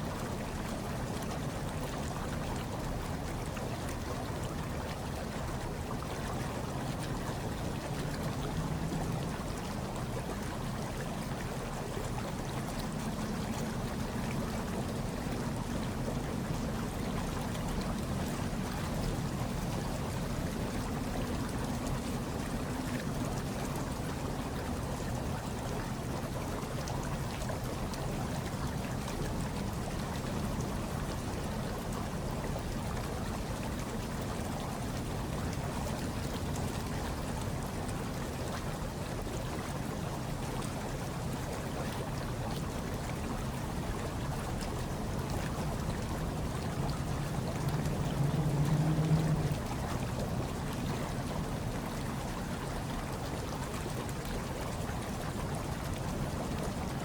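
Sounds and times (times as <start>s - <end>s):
hot tub water bubbling: 0.0s - 57.0s.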